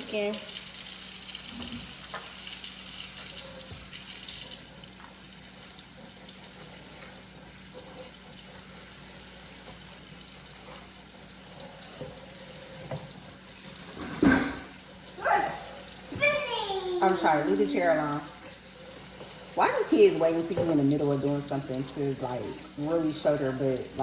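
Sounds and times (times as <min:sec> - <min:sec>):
faucet running water: 0:00.0 - 0:24.0.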